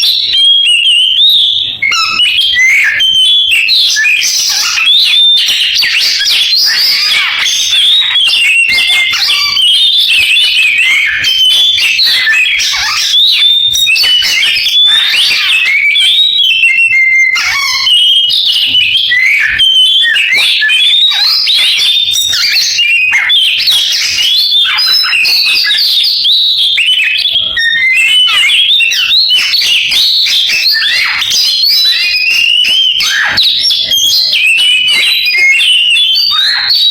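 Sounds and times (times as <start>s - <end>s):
magpie-robin singing: 0.0s - 36.9s.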